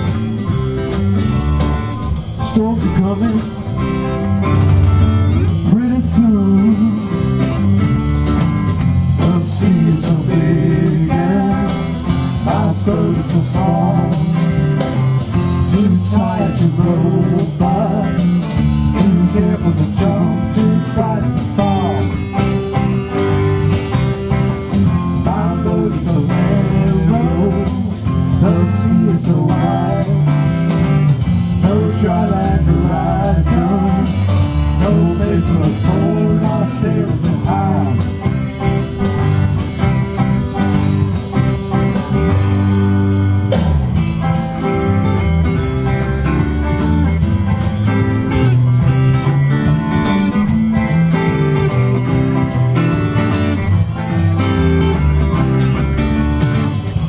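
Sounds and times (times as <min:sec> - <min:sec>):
lead guitar line bending: 0:00.0 - 0:57.0
rock band playing: 0:00.0 - 0:57.0.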